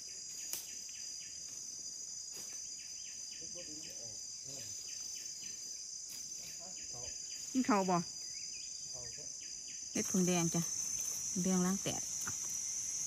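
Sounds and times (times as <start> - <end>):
insects buzzing: 0.0 - 13.0
quick insect chirping: 0.0 - 13.0.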